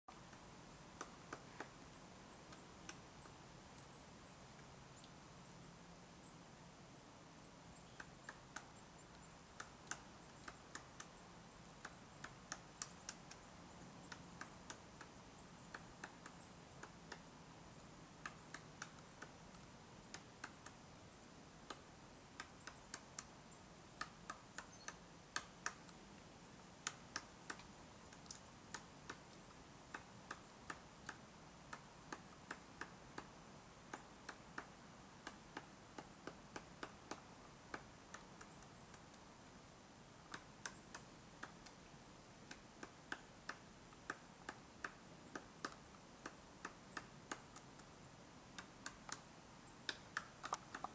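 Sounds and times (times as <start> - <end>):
woodpecker pecking on tree: 0.1 - 5.1, 7.8 - 17.3, 18.2 - 20.9, 21.6 - 39.3, 40.2 - 47.9, 48.5 - 50.9.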